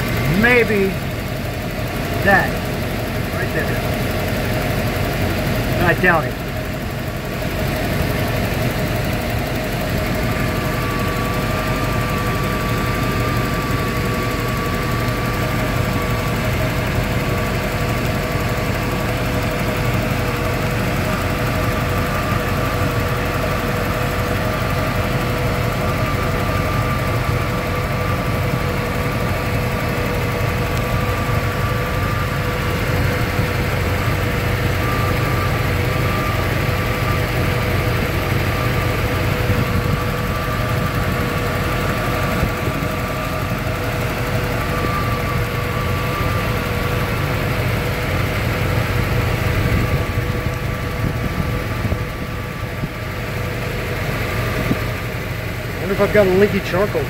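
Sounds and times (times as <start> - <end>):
car engine idling: 0.0 - 57.0
steady engine whine: 0.0 - 57.0.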